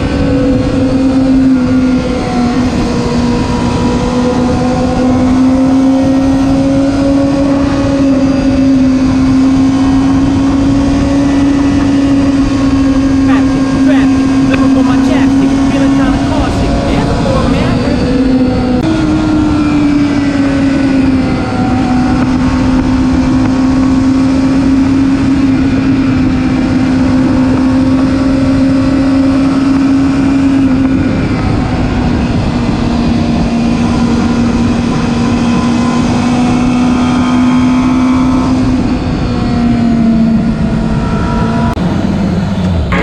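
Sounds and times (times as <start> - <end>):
motorcycle engine cruising: 0.0 - 43.0.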